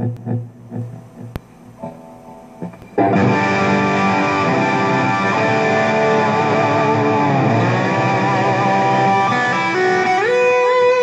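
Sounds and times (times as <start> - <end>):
electric guitar ringing chord: 1.8 - 11.0.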